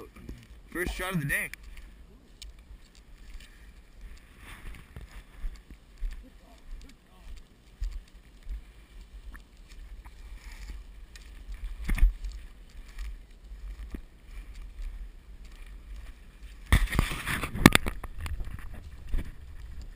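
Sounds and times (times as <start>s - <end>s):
footsteps through dry grass: 0.0s - 19.9s
brush rustling against camera: 0.1s - 19.9s
wind rumble on microphone: 3.9s - 19.9s.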